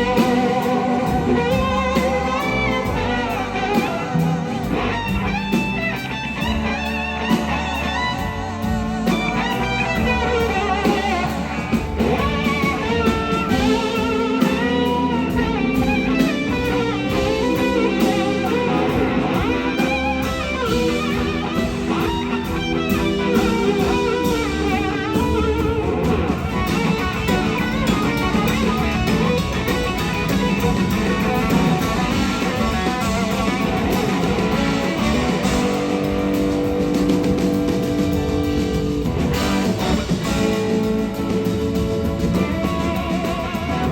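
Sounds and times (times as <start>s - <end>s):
band with bass and drums: 0.0s - 43.9s
electric slide guitar solo: 0.0s - 43.9s.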